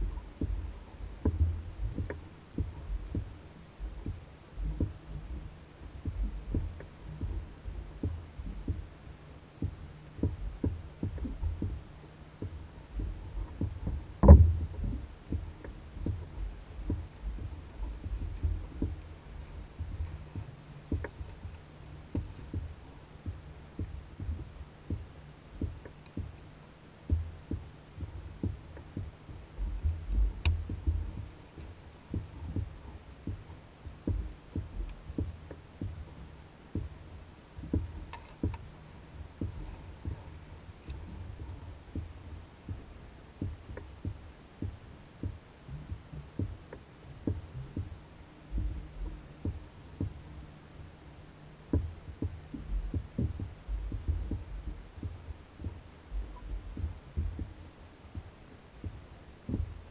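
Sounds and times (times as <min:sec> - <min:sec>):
waves knocking against canoe hull: 0:00.0 - 0:08.9, 0:09.6 - 0:50.3, 0:51.6 - 0:57.6
steady low hum: 0:00.0 - 0:59.9.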